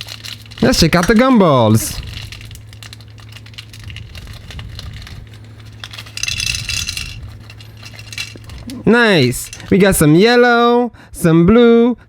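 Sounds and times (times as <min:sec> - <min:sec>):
gumballs rattling: 0:00.0 - 0:10.0
low steady hum: 0:00.0 - 0:11.1.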